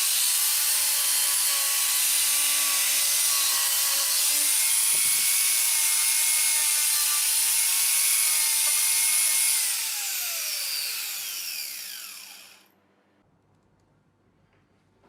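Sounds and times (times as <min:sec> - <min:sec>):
angle grinder whining: 0:00.0 - 0:12.7.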